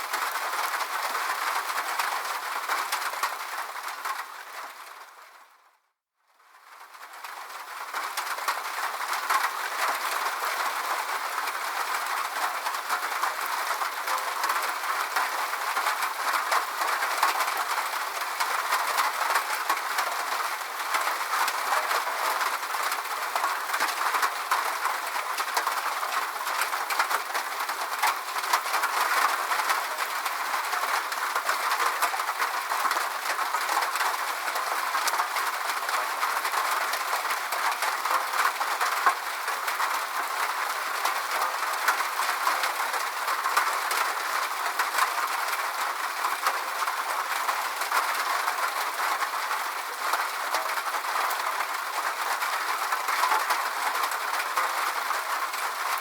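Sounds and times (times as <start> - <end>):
steady rain falling: 0.0 - 5.7, 6.3 - 56.0.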